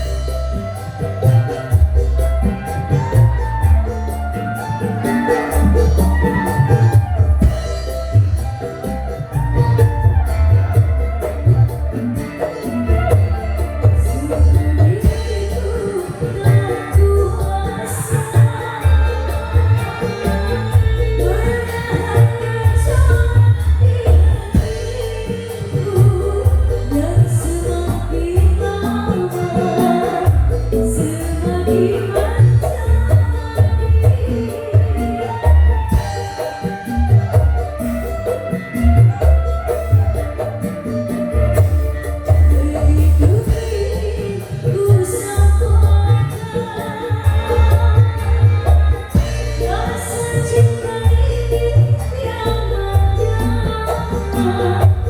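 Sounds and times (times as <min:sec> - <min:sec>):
person singing: 0:00.0 - 0:37.2, 0:42.1 - 0:55.0
bass-heavy music with shaker percussion: 0:00.0 - 0:55.0.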